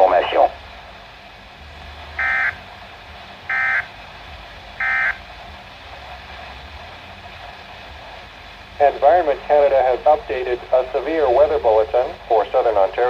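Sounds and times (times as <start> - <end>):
low hiss: 0.0 - 13.0.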